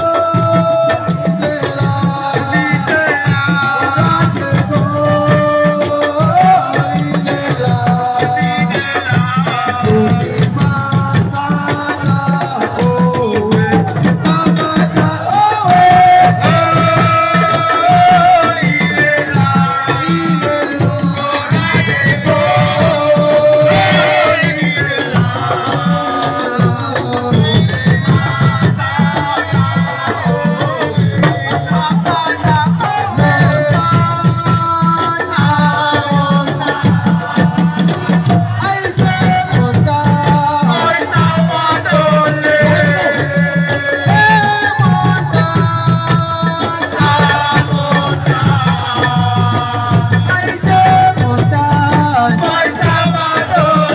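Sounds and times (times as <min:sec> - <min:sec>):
fast hand drumming: 0:00.0 - 0:53.9
person singing: 0:00.0 - 0:53.9.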